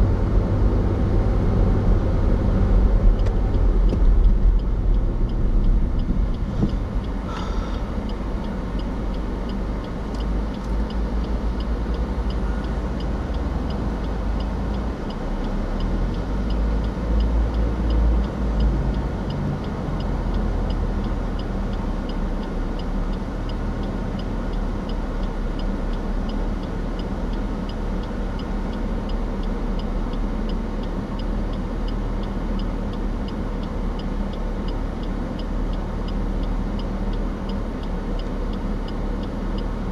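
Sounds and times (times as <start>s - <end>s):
car engine low rumble: 0.0s - 39.9s
turn signal ticking: 0.1s - 39.9s.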